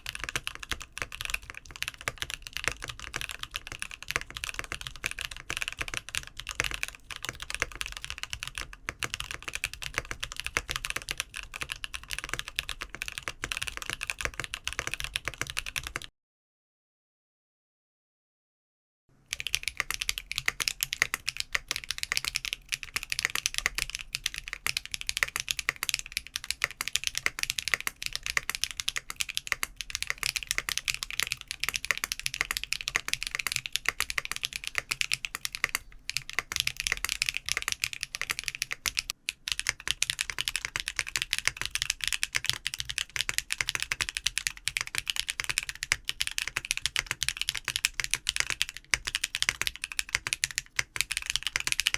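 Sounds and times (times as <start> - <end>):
fast mechanical keyboard typing: 0.0 - 16.1, 19.3 - 51.9.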